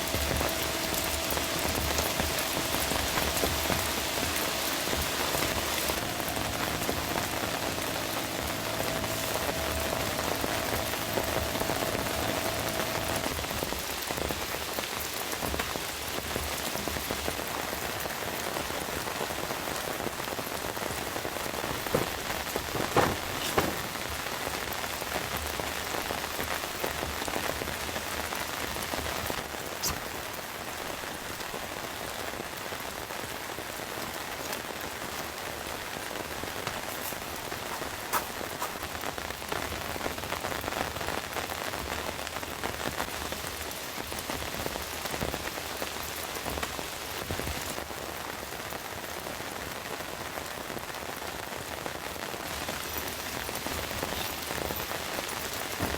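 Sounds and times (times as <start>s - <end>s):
heavy rain on tent fabric: 0.0s - 55.9s.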